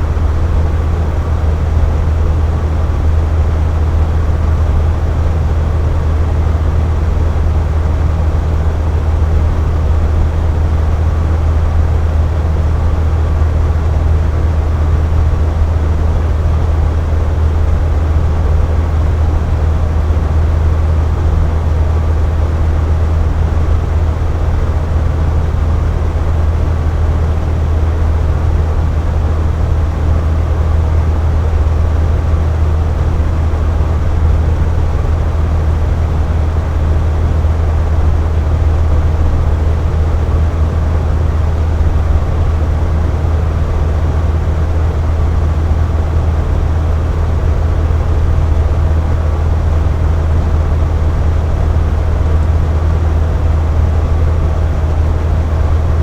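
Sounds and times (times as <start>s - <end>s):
box fan running: 0.0s - 56.0s.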